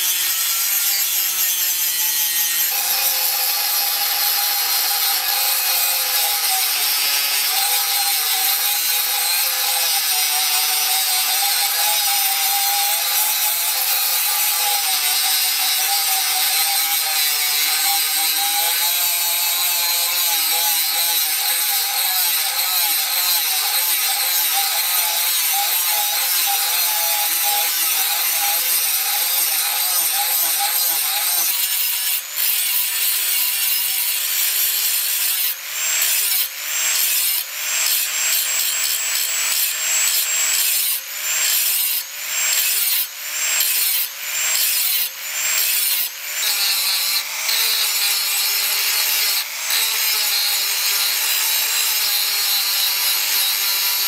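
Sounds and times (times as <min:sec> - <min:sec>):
angle grinder grinding metal: 0:00.0 - 0:54.0.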